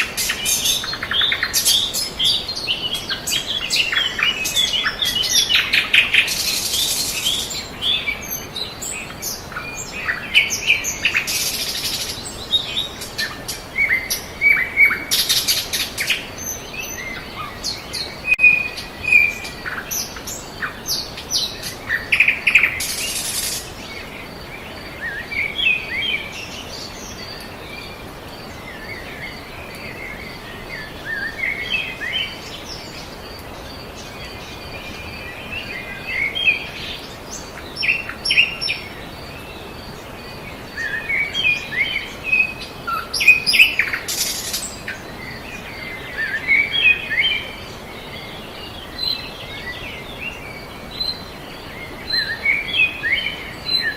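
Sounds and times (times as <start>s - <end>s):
songbirds chirping and trilling: 0.0s - 53.9s
steady background hiss: 0.0s - 53.9s.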